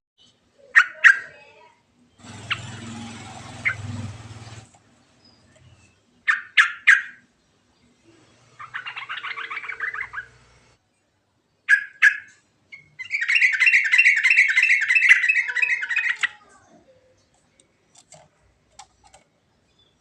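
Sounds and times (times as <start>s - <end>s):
bird singing and trilling: 2.1s - 10.8s, 11.6s - 18.1s, 18.8s - 20.0s.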